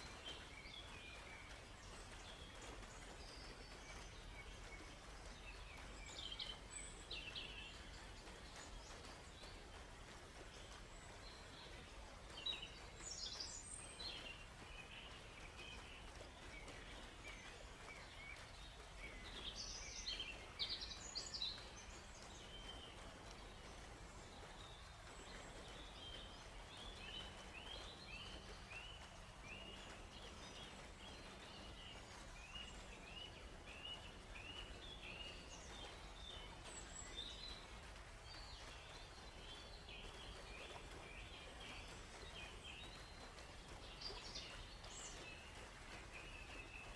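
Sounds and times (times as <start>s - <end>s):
faint steady hiss: 0.0s - 46.9s
songbirds chirping and trilling: 0.0s - 46.9s.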